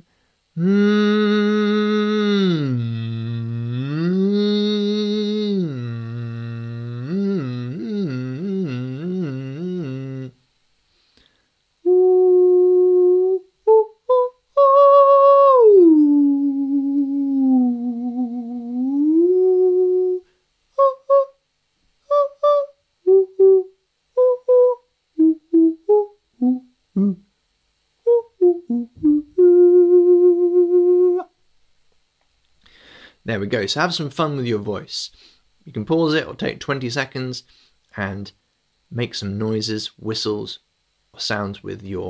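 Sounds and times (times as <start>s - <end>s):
man singing without words: 0.0s - 10.4s, 11.8s - 21.4s, 22.0s - 27.3s, 28.0s - 31.4s, 33.2s - 40.6s.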